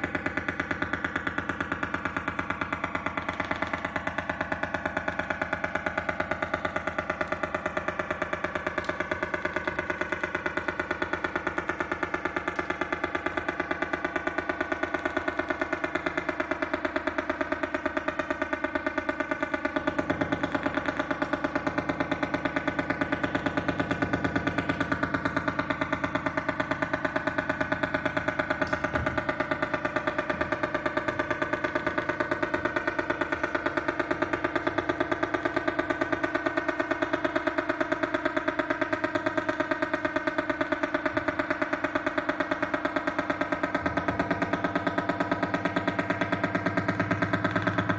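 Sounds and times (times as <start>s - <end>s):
pulsing electronic drone: 0.0s - 47.9s.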